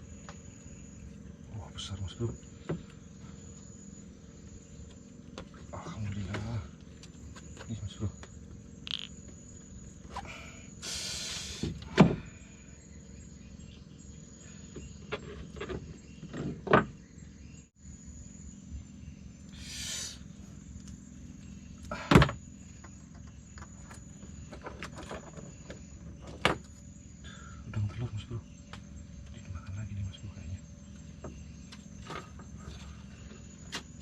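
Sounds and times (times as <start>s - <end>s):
night insects chirring: 0.0s - 34.0s.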